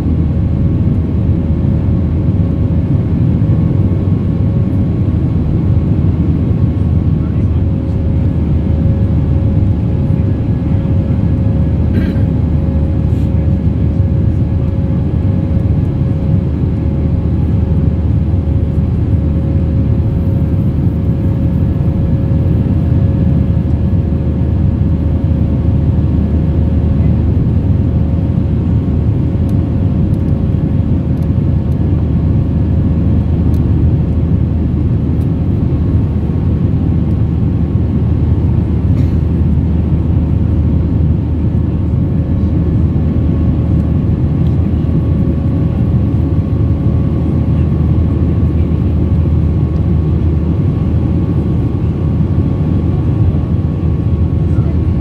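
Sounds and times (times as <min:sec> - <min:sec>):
constant cabin hum: 0:00.0 - 0:55.0
jet engines and airflow rushing: 0:00.0 - 0:55.0.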